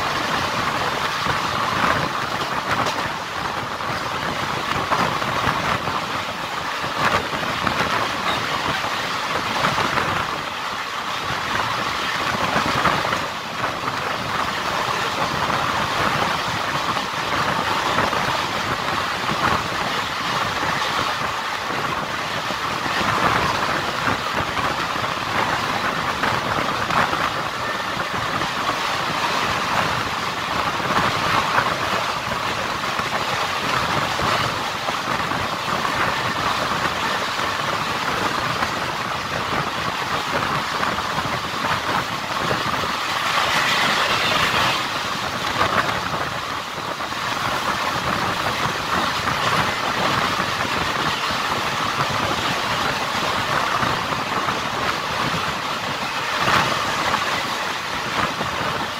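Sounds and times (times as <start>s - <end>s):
train coach rattling: 0.0s - 58.9s
train wheels rolling on rails: 0.0s - 58.9s.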